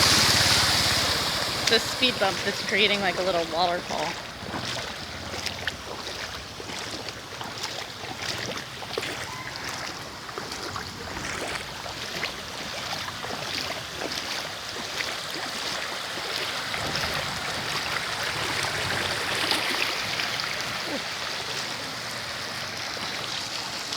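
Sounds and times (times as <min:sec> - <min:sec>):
water rushing and splashing: 0:00.0 - 0:23.9.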